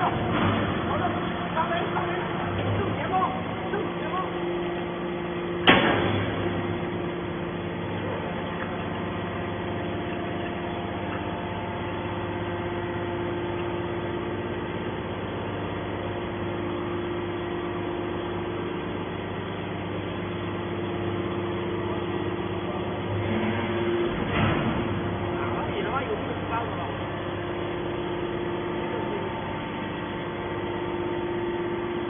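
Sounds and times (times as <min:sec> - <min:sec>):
hydraulic pump motor humming: 0:00.0 - 0:32.0.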